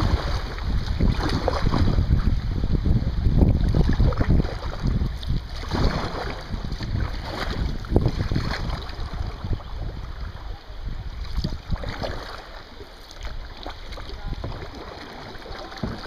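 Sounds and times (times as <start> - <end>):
paddle splashing and dripping water: 0.0 - 16.0
wind buffeting microphone: 0.0 - 16.0.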